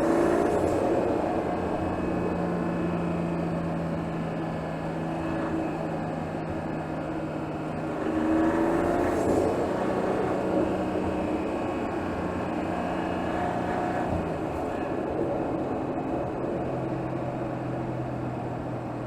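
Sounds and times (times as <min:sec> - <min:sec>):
car engine running and revving: 0:00.0 - 0:19.0.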